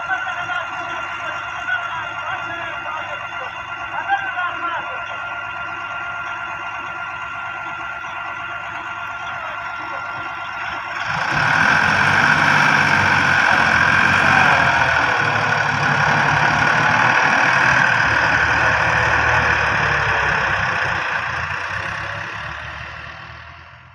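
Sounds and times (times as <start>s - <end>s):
diesel machinery engine running: 0.0s - 23.9s.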